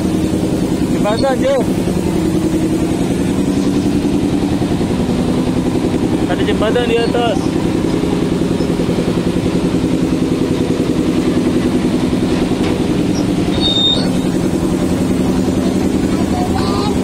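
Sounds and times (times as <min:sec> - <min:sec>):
small train engine running: 0:00.0 - 0:17.0.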